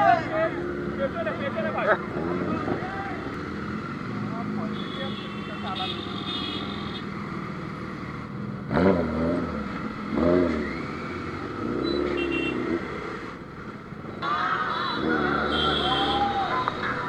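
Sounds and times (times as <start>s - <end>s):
motorbike engine revving: 0.0s - 4.8s, 6.7s - 17.0s
engines and traffic: 0.0s - 17.0s.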